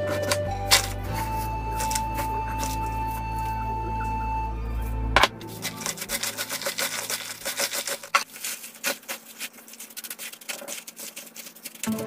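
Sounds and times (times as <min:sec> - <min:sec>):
gloved hands rustling cabbage: 0:00.0 - 0:12.0.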